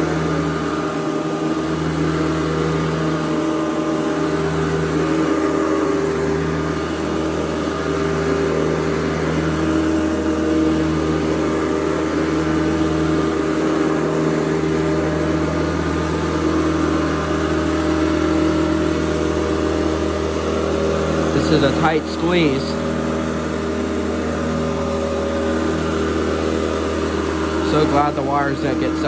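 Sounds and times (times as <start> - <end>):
vacuum cleaner motor hum: 0.0 - 29.0.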